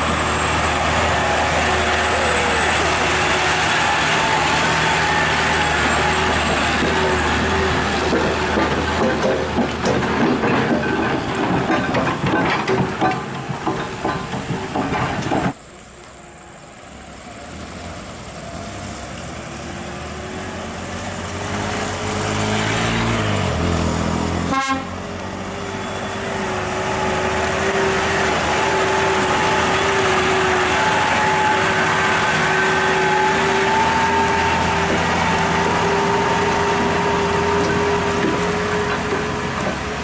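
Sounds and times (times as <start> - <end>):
heavy truck engine climbing: 0.0 - 40.0.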